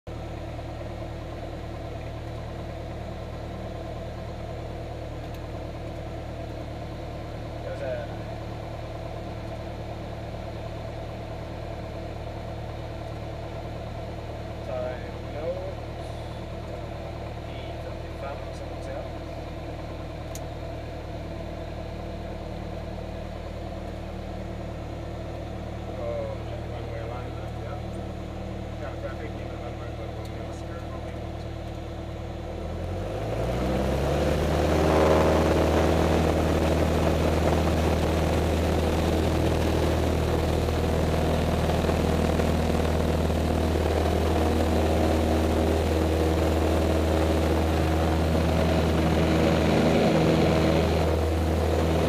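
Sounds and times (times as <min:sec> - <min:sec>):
light aircraft engine drone: 0:00.1 - 0:52.0.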